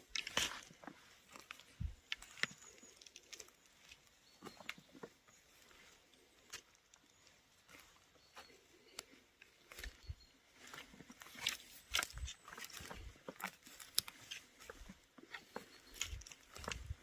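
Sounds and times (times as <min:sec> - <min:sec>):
twigs crackling underfoot: 0:00.0 - 0:17.0.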